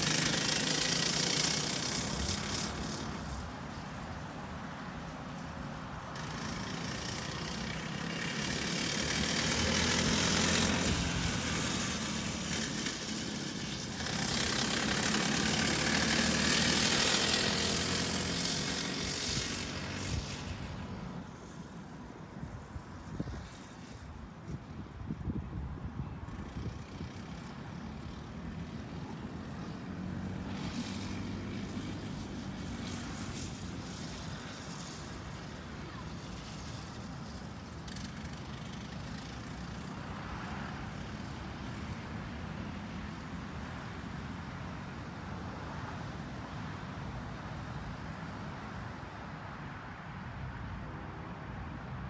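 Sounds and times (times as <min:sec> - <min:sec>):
small vehicle engine droning: 0:00.0 - 0:49.0.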